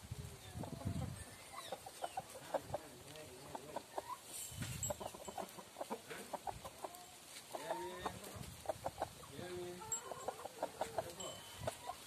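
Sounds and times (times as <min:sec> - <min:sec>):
chicken clucking: 0:00.1 - 0:12.0.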